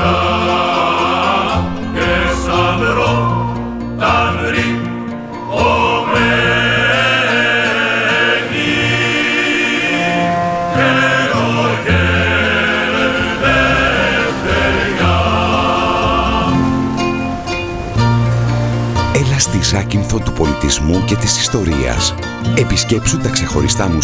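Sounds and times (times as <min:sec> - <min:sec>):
choir singing: 0:00.0 - 0:24.0
instrumental backing: 0:00.0 - 0:24.0.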